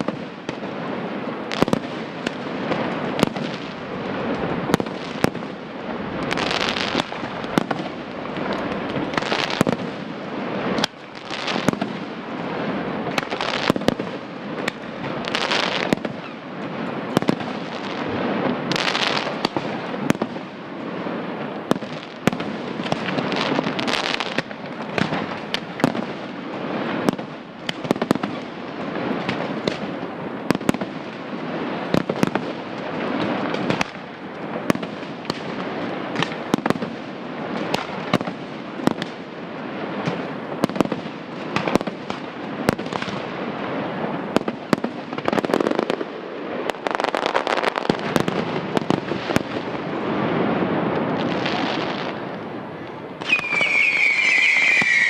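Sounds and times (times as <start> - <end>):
firework bursts and bangs: 0.0 - 55.0
firework crackling: 0.0 - 55.0.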